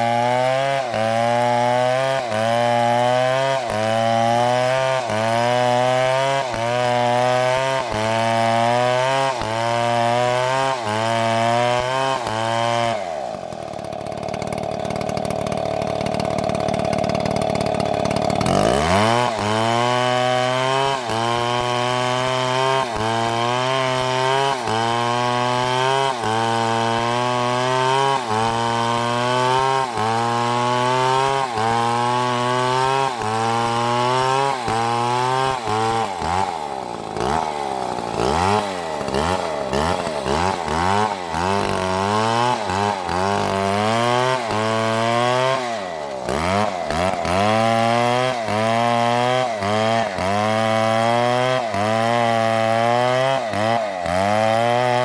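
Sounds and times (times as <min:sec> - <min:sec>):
chainsaw cutting a tree: 0:00.0 - 0:55.0.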